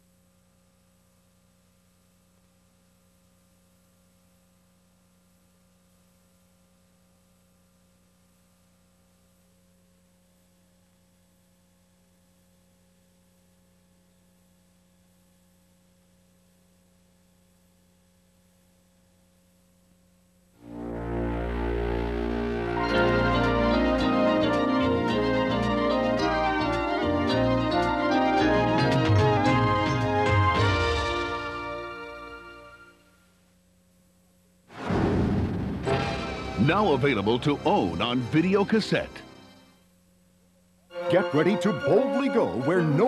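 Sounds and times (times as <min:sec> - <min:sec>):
faint tape hum and hiss: 0:00.0 - 0:43.0.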